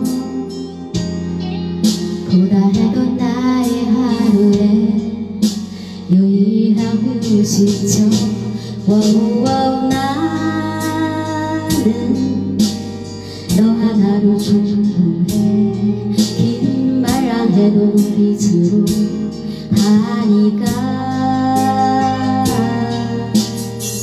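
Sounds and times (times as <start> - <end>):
backing track with steady beat: 0.0 - 24.0
woman singing into a microphone: 0.0 - 24.0.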